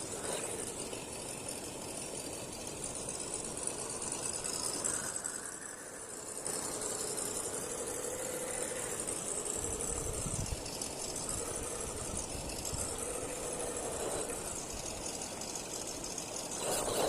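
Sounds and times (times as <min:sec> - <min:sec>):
electric motor and gearbox whining: 0:00.0 - 0:17.0.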